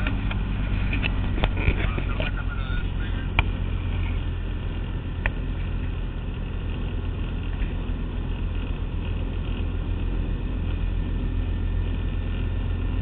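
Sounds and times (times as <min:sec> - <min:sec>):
propeller engine running: 0:00.0 - 0:13.0.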